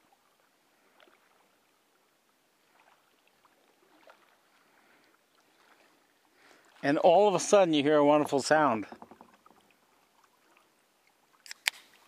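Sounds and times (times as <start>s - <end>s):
paddle drips and splashes: 0.0s - 12.0s.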